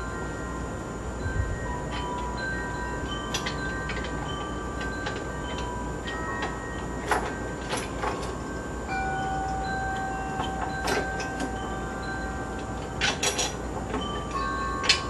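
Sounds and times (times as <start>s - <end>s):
steady background hiss: 0.0s - 15.0s
metal parts clinking: 1.8s - 8.4s, 9.0s - 15.0s.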